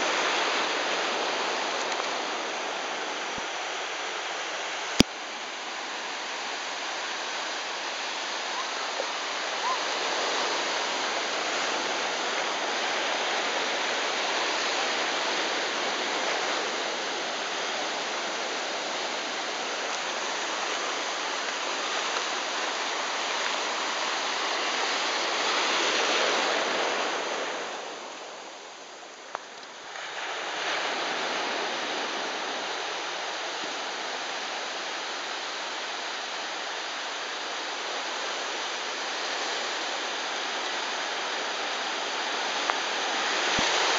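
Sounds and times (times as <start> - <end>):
surf washing over sand: 0.0 - 43.9.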